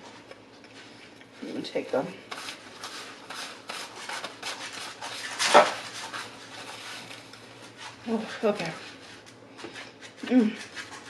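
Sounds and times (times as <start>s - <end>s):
food containers rubbing and scraping: 0.0s - 11.0s.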